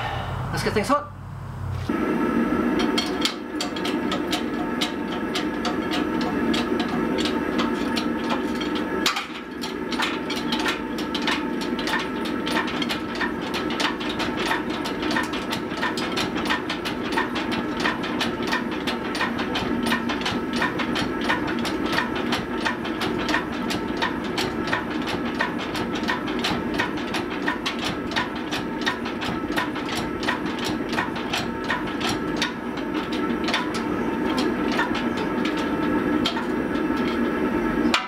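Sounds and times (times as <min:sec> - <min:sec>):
workshop machinery humming: 0:00.0 - 0:38.0.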